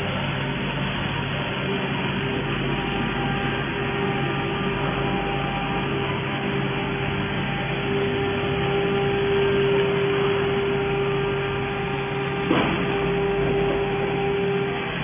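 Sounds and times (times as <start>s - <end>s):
machine hum with held tone: 0.0s - 15.0s.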